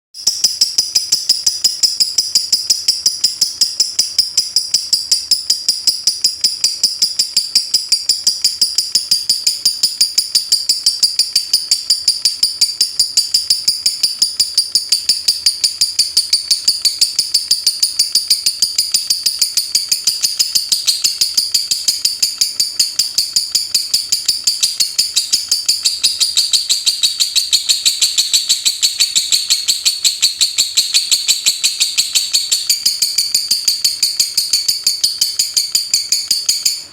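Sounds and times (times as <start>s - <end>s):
lovebird chirping rapidly: 0.2s - 36.9s.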